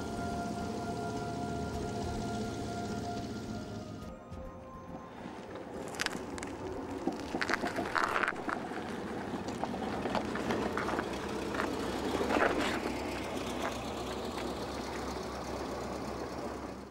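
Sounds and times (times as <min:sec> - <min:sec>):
car engine running: 0:00.0 - 0:16.9
wheels knocking and crunching: 0:00.0 - 0:16.9.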